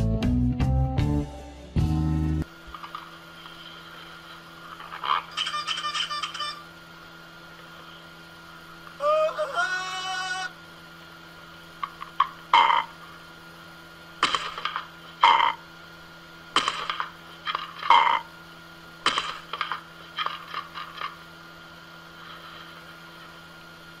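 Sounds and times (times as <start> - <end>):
faint steady hum: 1.1 - 24.0.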